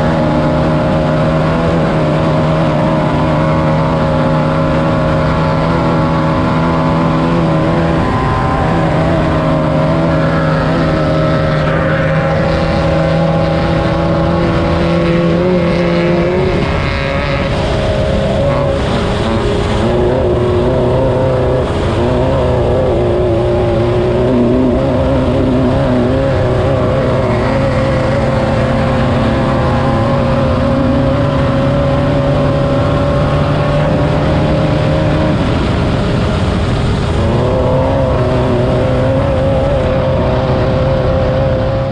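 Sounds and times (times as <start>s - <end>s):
buggy engine running at high revs: 0.0s - 41.9s.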